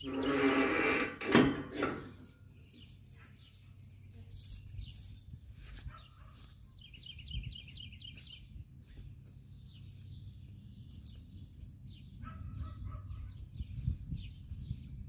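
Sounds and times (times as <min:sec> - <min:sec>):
small bird chirping: 0:02.2 - 0:15.0.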